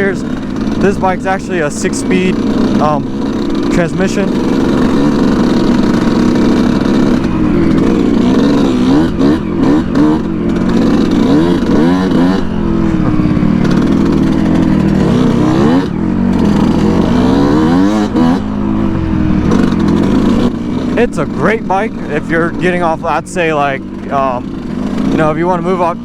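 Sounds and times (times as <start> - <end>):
two-stroke engine revving: 0.0 - 26.0.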